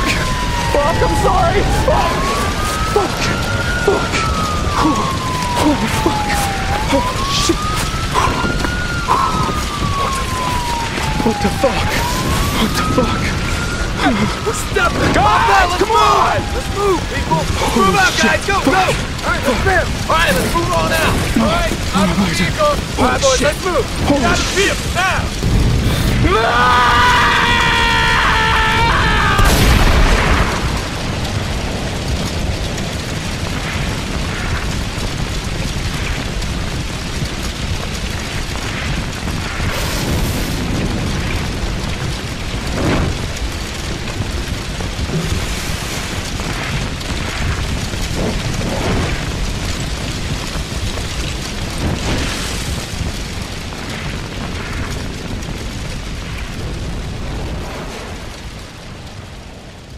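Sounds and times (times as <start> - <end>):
small fire crackling and popping: 0.0 - 59.9.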